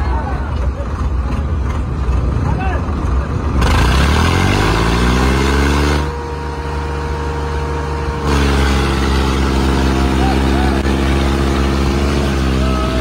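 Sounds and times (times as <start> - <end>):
tractor engine revving: 0.0 - 13.0.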